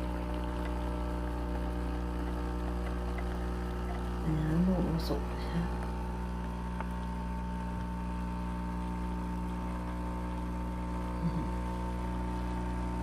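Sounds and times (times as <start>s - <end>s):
coffee machine pump humming: 0.0s - 13.0s.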